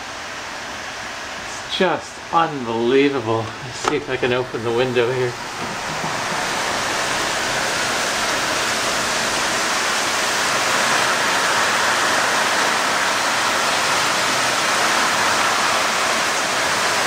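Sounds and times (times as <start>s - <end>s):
torrential rain pouring: 0.0s - 17.0s.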